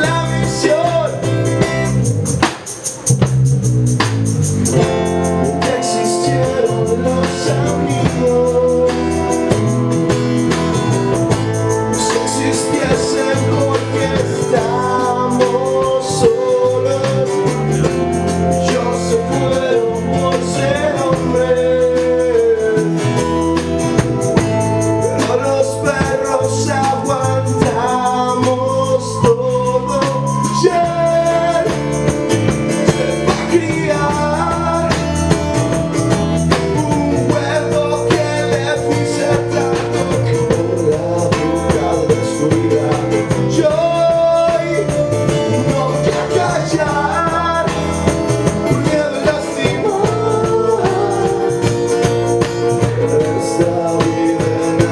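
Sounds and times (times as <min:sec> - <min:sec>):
man singing lead: 0:00.0 - 0:02.6, 0:04.8 - 0:54.9
bass: 0:00.0 - 0:54.9
guitar: 0:00.0 - 0:54.9
keyboard: 0:00.0 - 0:54.9.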